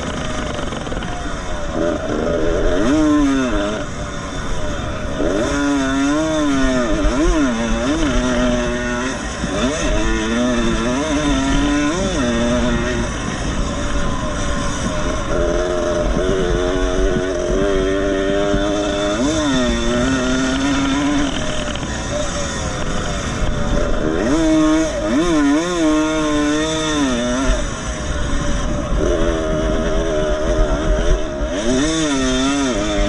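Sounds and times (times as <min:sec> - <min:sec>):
two-stroke motorcycle engine revving: 0:00.0 - 0:33.0.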